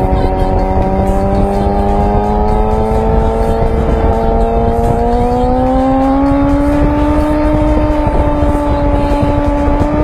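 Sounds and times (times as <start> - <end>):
motorcycle engine accelerating: 0.0 - 10.0
wind rushing over microphone: 0.0 - 10.0.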